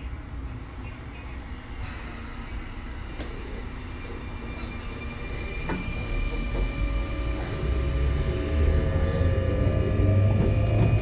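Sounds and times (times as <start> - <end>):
steady high whine: 0.0 - 11.0
train running rumble: 0.0 - 11.0.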